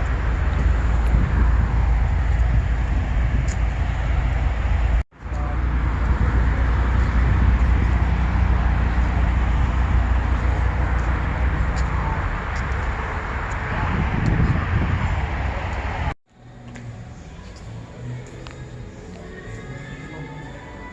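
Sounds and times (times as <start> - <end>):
car engines passing: 0.0 - 20.9.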